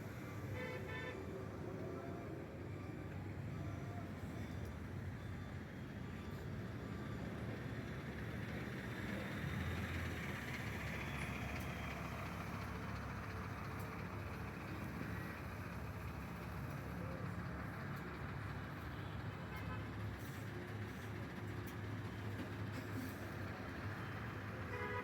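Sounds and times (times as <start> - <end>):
large vehicle engine rumbling: 3.4 - 25.0.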